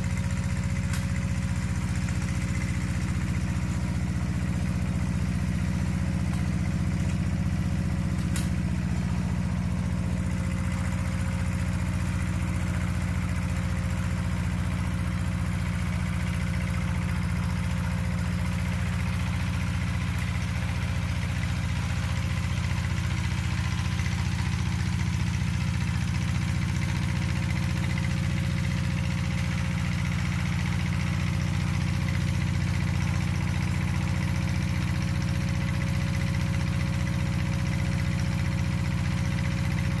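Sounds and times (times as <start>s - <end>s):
diesel tiller engine running: 0.0s - 40.0s.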